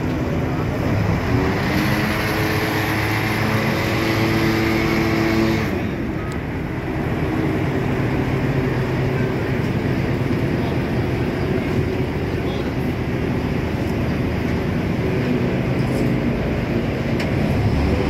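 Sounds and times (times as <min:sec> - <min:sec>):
ferry engine drone: 0:00.0 - 0:18.0.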